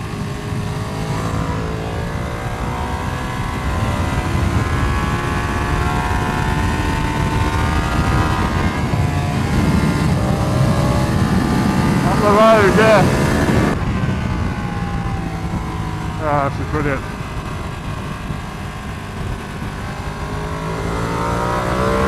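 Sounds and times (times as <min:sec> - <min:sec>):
motorcycle engine at speed: 0:00.0 - 0:22.0
wind rush over microphone: 0:00.0 - 0:22.0.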